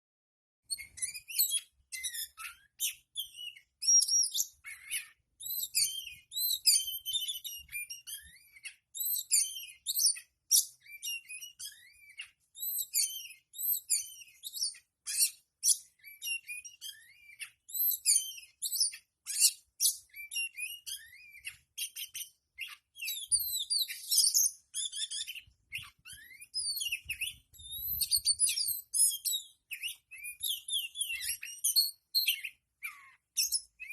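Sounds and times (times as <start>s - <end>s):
bird singing high-pitched song: 0.6s - 33.9s.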